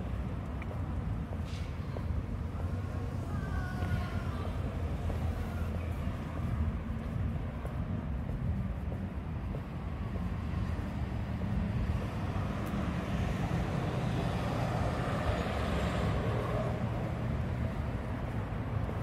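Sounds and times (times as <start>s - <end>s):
steady low rumble: 0.0s - 19.0s
vehicle passing: 0.0s - 19.0s.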